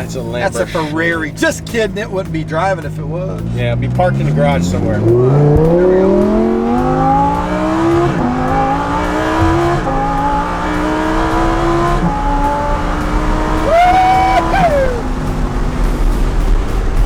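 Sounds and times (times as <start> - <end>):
car engine accelerating through gears: 0.0 - 17.0.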